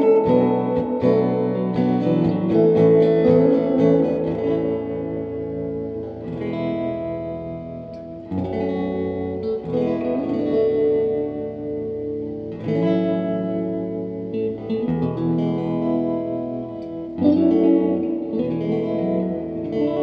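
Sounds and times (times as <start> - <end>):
guitar chords ringing: 0.0 - 20.0.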